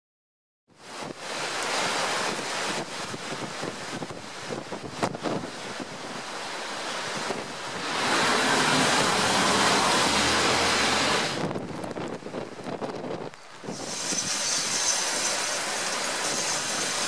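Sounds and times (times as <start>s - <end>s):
storm wind buffeting microphone: 0.8s - 17.0s.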